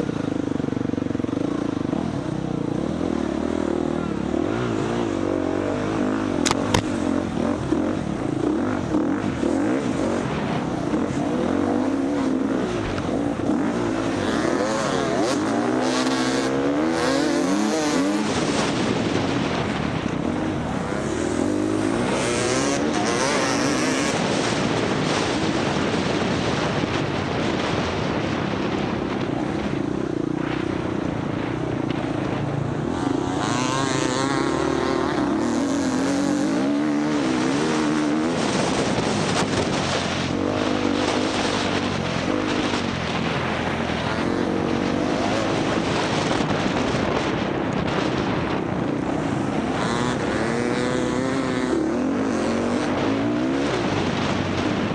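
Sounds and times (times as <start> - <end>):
dirt bike engine revving: 0.0 - 54.9
wind and ground noise: 0.0 - 54.9.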